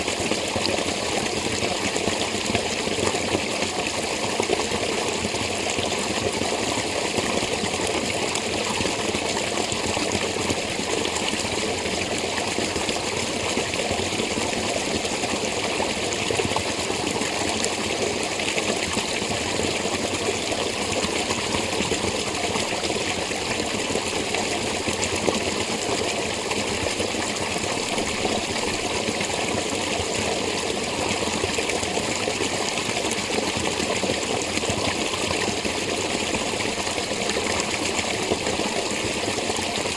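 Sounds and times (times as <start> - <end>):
spring water running and splashing: 0.0 - 39.9.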